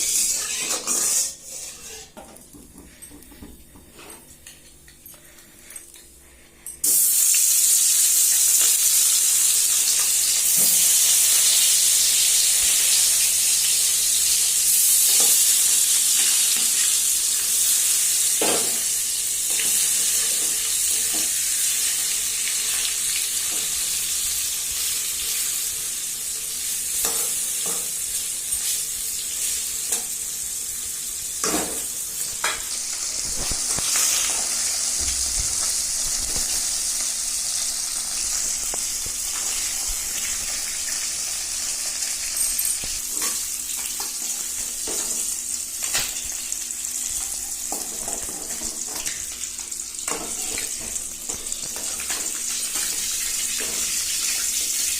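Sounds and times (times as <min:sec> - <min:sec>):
food sizzling in hot oil: 0:00.0 - 0:02.1, 0:06.8 - 0:54.9.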